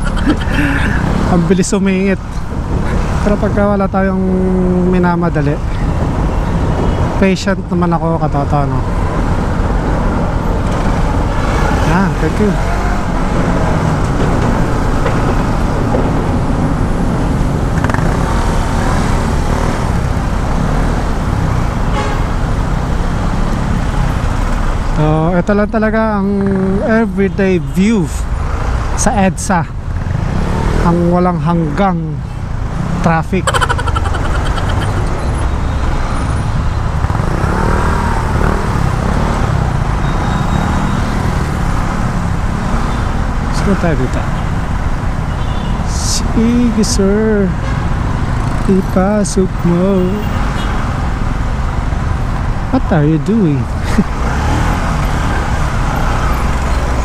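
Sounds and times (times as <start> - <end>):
surrounding traffic noise: 0.0 - 57.0.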